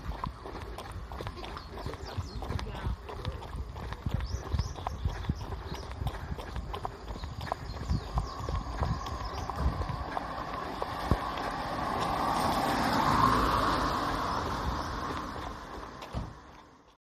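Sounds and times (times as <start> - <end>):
vehicle passing: 0.0 - 16.9.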